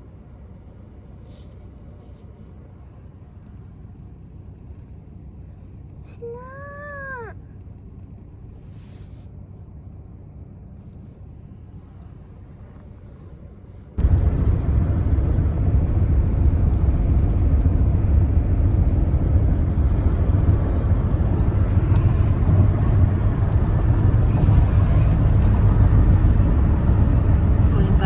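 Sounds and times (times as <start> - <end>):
car tyres and engine rumble: 0.0 - 28.0.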